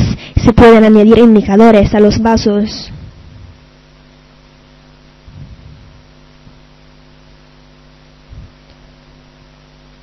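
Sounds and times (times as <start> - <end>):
electrical mains hum with hiss: 0.0 - 10.0.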